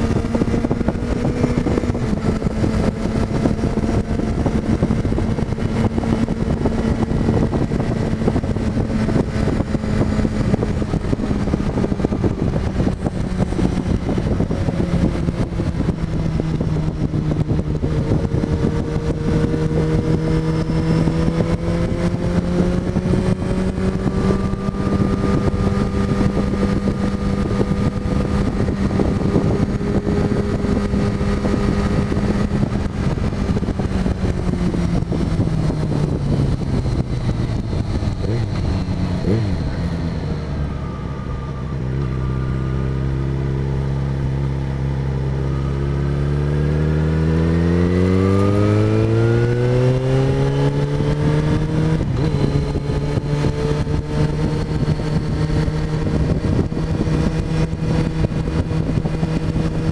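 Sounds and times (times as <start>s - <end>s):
motorcycle engine cruising: 0.0s - 59.9s
wind noise: 0.0s - 59.9s.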